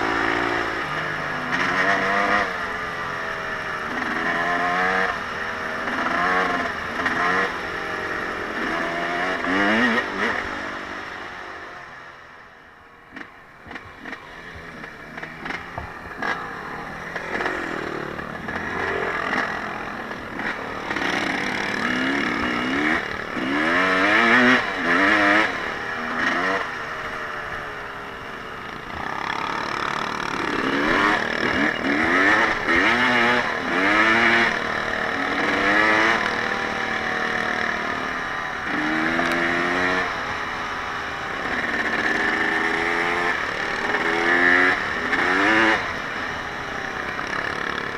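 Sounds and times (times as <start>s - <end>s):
off-road vehicle engine revving: 0.0s - 12.0s, 13.1s - 47.9s.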